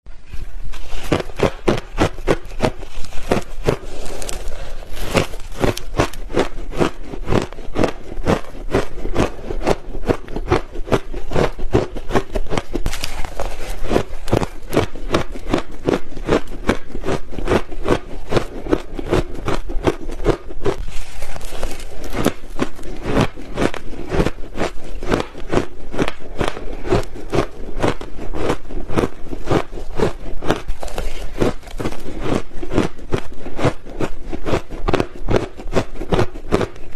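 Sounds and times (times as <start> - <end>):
chewing ice crunches: 0.8 - 36.9.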